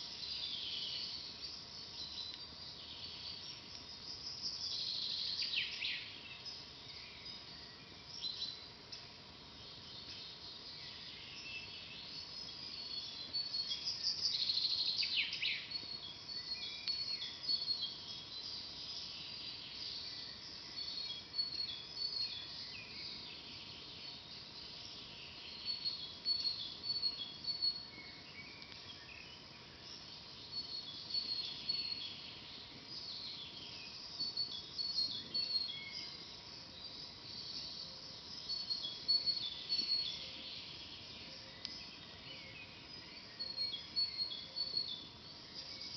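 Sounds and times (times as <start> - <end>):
birds chirping and trilling: 0.0 - 45.9
soft steady background hiss: 0.0 - 45.9.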